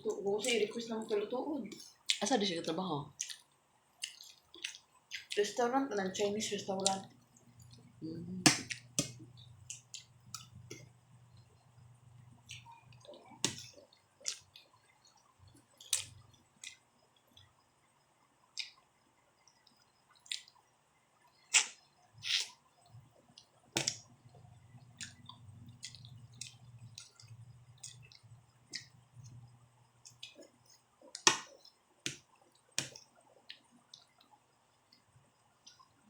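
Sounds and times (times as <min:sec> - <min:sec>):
chewing and food handling: 0:00.0 - 0:08.0, 0:08.6 - 0:17.6, 0:18.5 - 0:36.0
faint low hum: 0:00.0 - 0:36.0.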